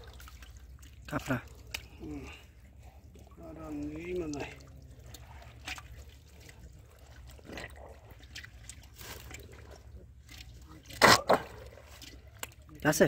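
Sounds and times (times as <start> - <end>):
hand sloshing in muddy water: 0.0 - 13.0.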